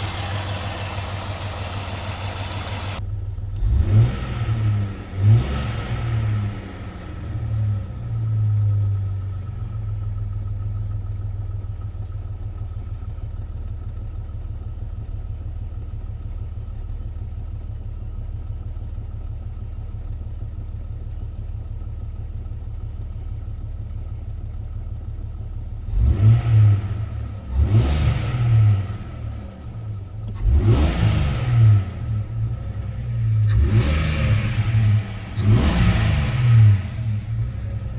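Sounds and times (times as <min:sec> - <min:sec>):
car engine revving and idling: 0:00.0 - 0:37.9.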